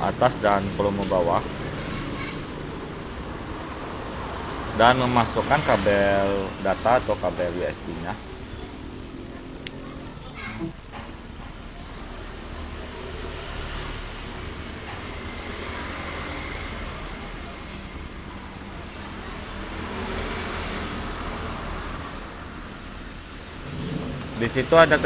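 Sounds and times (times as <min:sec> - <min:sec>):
road traffic rushing: 0:00.0 - 0:25.0
vehicles passing: 0:00.0 - 0:25.0.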